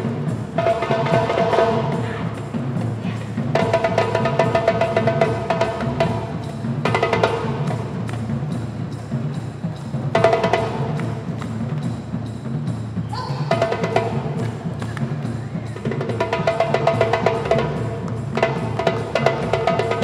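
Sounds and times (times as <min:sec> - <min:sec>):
pitched percussion melody: 0:00.0 - 0:20.0
steady drum rhythm: 0:00.0 - 0:20.0.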